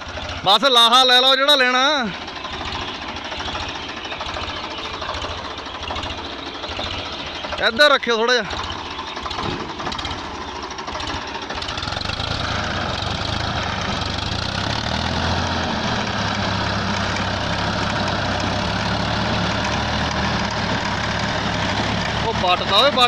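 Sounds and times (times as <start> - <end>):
diesel tractor engine running: 0.0 - 23.0.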